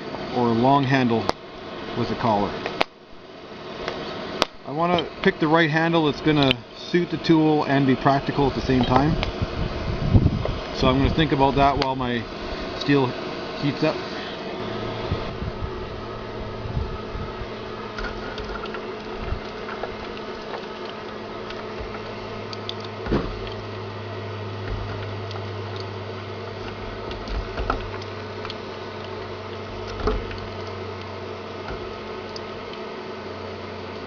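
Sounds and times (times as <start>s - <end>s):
forge humming and rushing: 0.0s - 34.0s.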